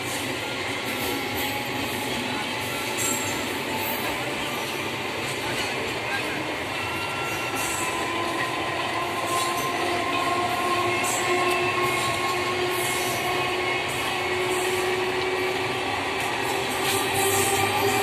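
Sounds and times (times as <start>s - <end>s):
electric train rumbling on rails: 0.0s - 18.0s.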